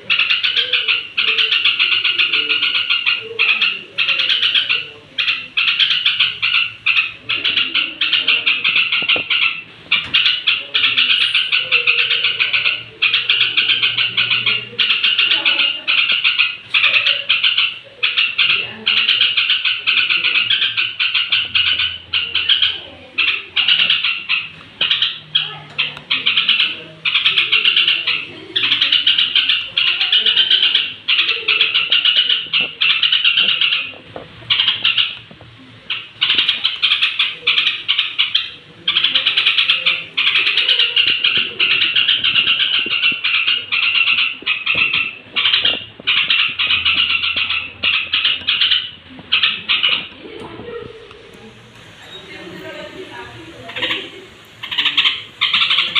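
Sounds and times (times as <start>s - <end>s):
bird chirping chatter: 0.0s - 55.9s.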